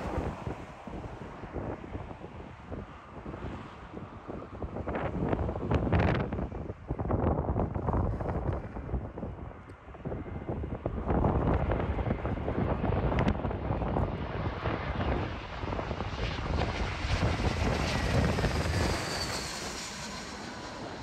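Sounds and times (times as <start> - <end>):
jet airliner engines rumbling: 0.0 - 21.0
wind buffeting microphone: 0.0 - 21.0.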